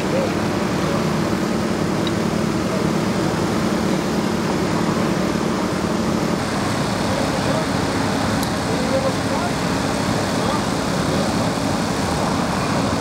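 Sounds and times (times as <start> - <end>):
low engine drone: 0.0 - 13.0
road noise: 0.0 - 13.0.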